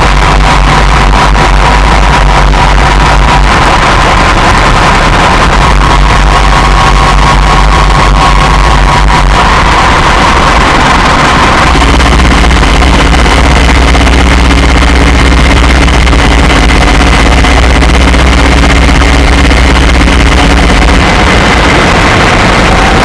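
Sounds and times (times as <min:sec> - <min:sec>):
deep hum: 0:00.0 - 0:23.0
synthesizer noise drone: 0:00.0 - 0:23.0.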